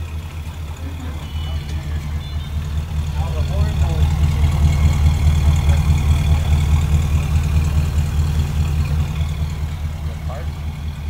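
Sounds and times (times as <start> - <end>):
truck engine idling at exhaust: 0.0 - 11.0.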